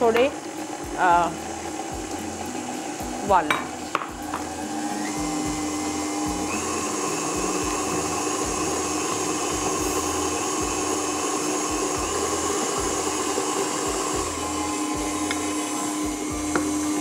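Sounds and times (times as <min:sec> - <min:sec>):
stand mixer motor hum: 0:00.0 - 0:03.3, 0:03.9 - 0:17.0.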